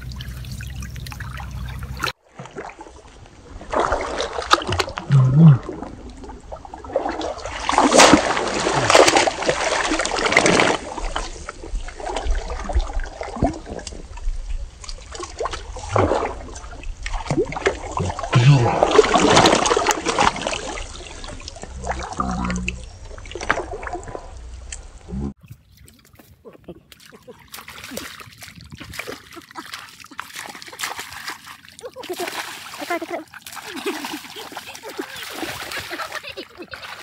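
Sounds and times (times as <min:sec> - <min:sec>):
splashing in shallow muddy water: 0:00.0 - 0:37.0.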